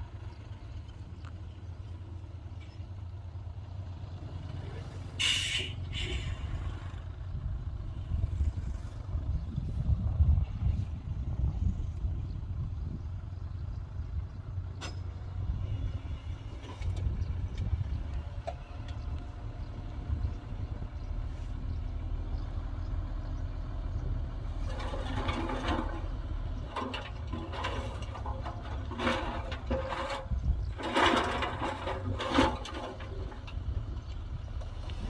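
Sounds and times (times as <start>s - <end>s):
diesel engine of heavy machinery: 0.0s - 35.0s.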